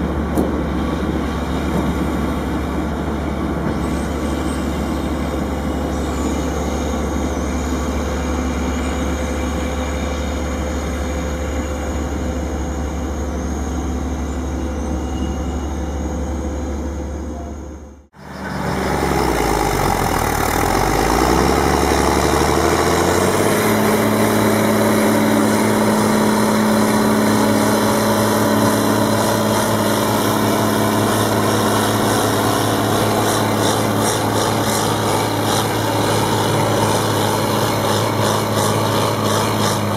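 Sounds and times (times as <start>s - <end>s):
heavy diesel engine running: 0.0s - 15.0s, 15.8s - 39.9s
heavy engine shifting pitch: 0.0s - 39.9s.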